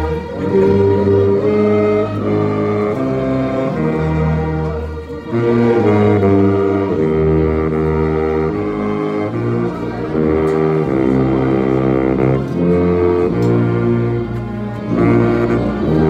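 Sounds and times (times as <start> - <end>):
accompanying instruments: 0.0 - 16.0
baritone saxophone playing hymn: 0.0 - 16.0.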